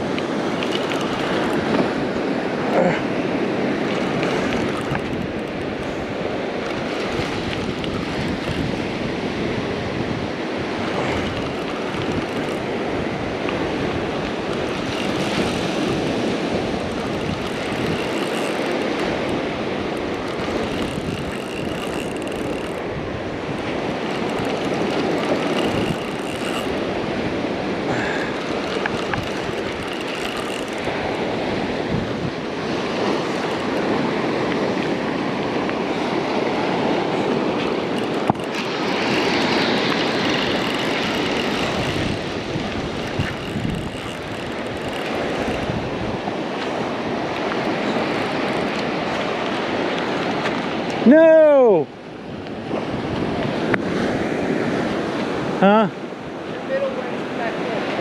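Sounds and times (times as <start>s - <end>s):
ocean surf breaking: 0.0s - 58.0s
wind on microphone: 0.0s - 58.0s.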